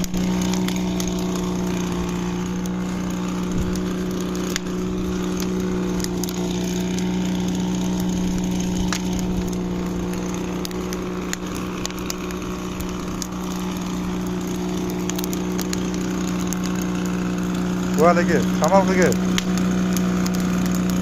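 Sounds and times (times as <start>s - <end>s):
campfire wood crackling: 0.0s - 21.0s
steady low hum: 0.0s - 21.0s.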